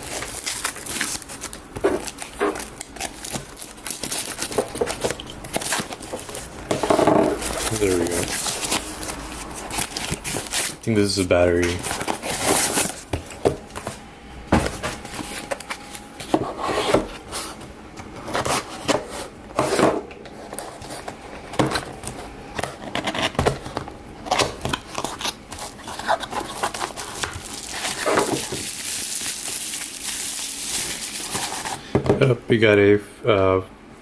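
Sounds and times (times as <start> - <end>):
packaging rustling and crinkling: 0.0 - 31.9.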